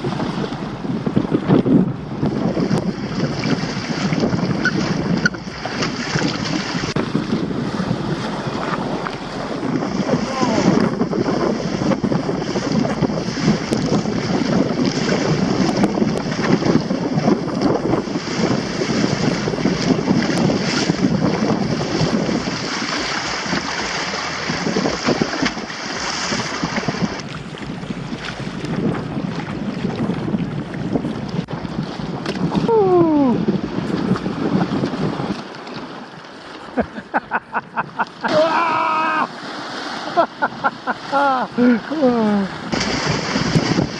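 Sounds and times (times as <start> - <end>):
water splashing along hull: 0.0 - 43.9
wind buffeting microphone: 0.0 - 43.9.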